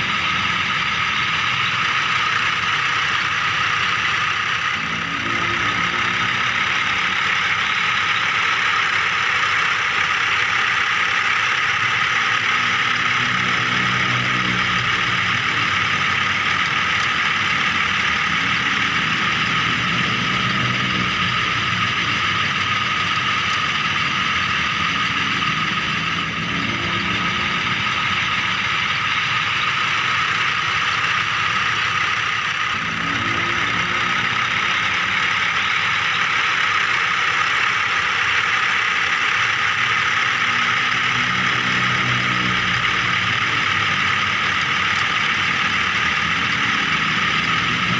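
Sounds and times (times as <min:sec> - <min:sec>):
low hum: 0:00.0 - 0:47.9
remote-control toy vehicle whine: 0:00.0 - 0:47.9.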